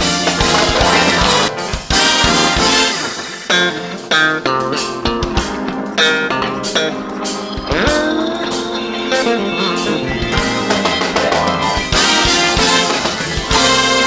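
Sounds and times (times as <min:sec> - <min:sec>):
funk band playing live: 0:00.0 - 0:14.0
sliding electric guitar notes: 0:00.0 - 0:14.0.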